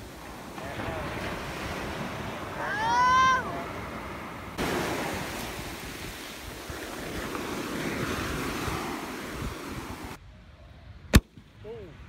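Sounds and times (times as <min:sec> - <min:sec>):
sea surf washing up beach: 0:00.0 - 0:10.2
wind on microphone: 0:00.0 - 0:12.0.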